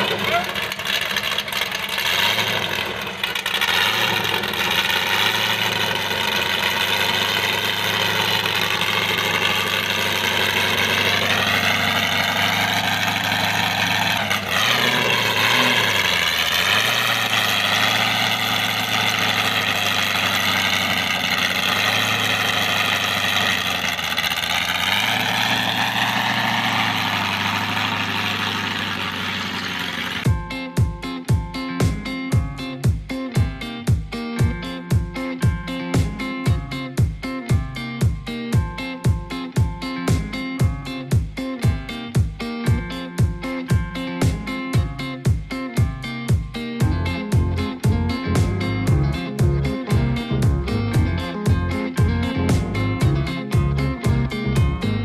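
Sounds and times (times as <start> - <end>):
buggy engine idling: 0.0 - 55.0.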